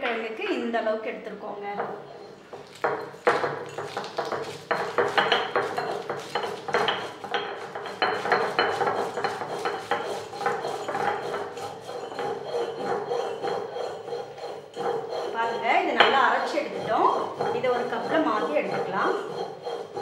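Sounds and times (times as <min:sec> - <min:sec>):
stone roller grinding on stone: 0:01.7 - 0:20.0.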